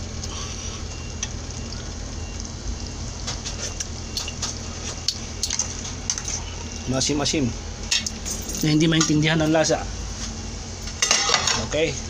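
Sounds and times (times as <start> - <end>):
pot simmering with bubbling hiss: 0.0 - 12.0.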